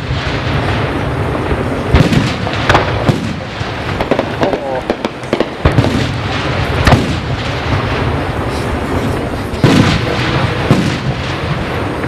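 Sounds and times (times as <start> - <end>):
fireworks bursting with booms: 0.0 - 12.0
steady rumble: 0.0 - 12.0.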